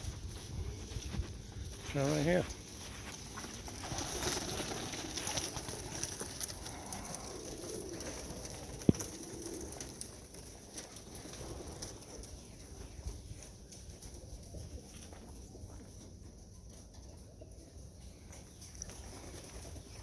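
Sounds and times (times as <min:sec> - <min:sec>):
small rustles: 0:00.0 - 0:17.0
pigeons cooing: 0:03.3 - 0:20.0.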